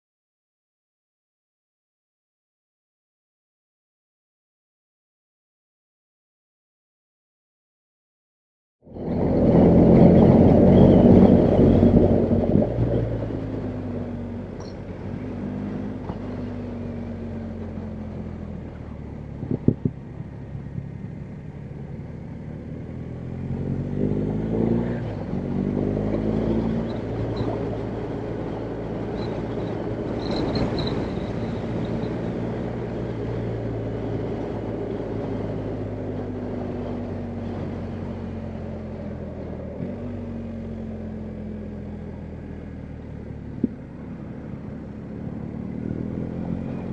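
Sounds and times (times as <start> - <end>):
motorcycle engine running: 8.9 - 46.9.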